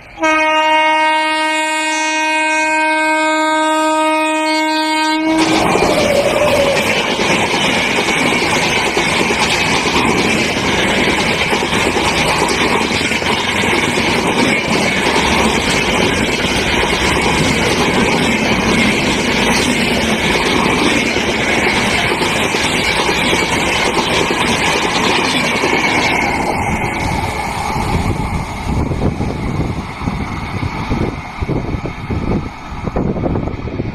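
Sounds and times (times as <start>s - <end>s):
high ring of wheels on rail: 0.0s - 33.9s
train coaches rushing past: 4.1s - 33.9s.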